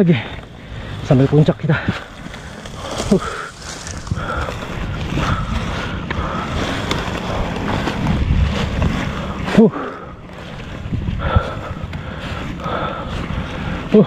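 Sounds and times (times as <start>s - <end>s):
dry grass rustling and crunching: 0.0s - 14.0s
wind buffeting microphone: 0.0s - 14.0s.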